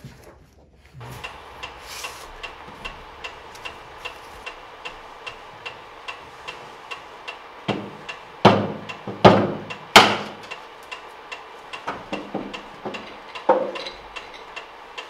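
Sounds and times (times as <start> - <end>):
metronome ticking: 1.0 - 15.0.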